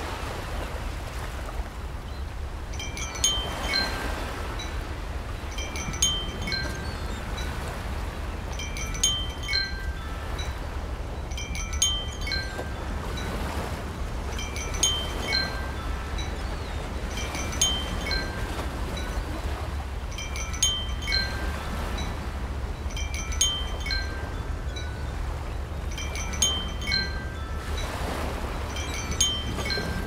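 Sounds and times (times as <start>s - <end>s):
wind chimes tinkling: 2.1s - 30.0s.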